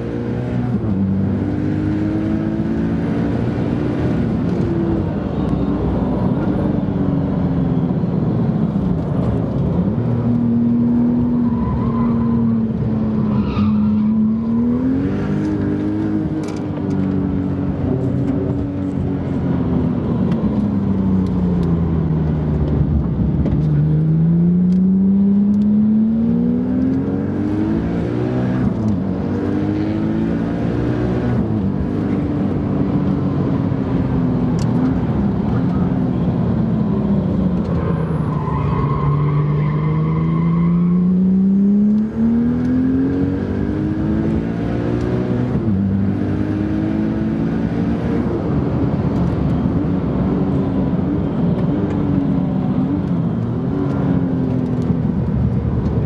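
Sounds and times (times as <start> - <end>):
car engine at full throttle: 0.0 - 56.0.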